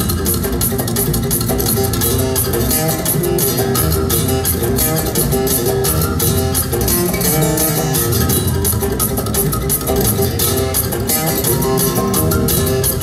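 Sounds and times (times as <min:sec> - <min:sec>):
fast acoustic guitar playing: 0:00.0 - 0:13.0.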